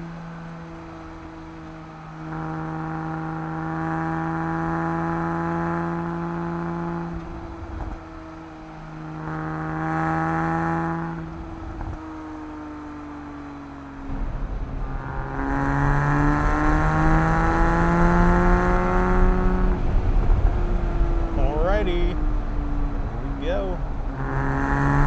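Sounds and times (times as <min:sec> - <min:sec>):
car engine pulling under throttle: 0:00.0 - 0:25.0.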